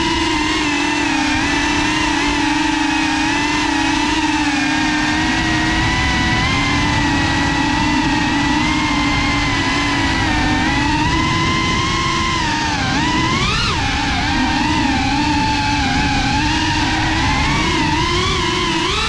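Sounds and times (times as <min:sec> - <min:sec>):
drone motors whining: 0:00.0 - 0:19.0
wind rumble: 0:00.0 - 0:19.0.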